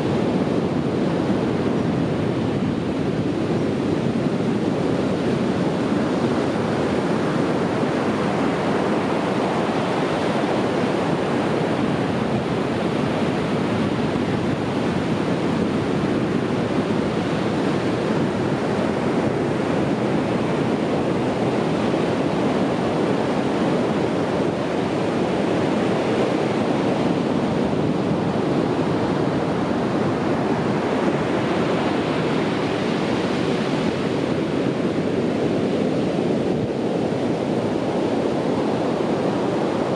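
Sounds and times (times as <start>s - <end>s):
waves washing on beach: 0.0s - 39.9s.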